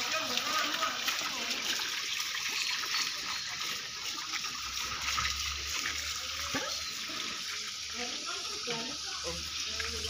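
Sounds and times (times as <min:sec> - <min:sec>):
hose water splashing: 0:00.0 - 0:10.0.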